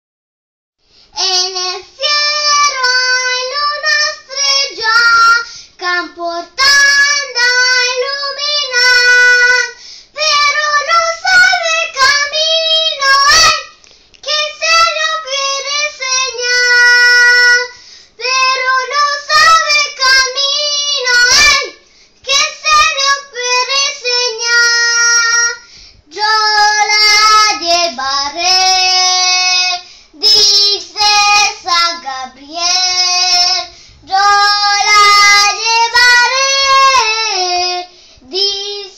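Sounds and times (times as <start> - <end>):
girl singing unaccompanied: 1.0 - 38.9.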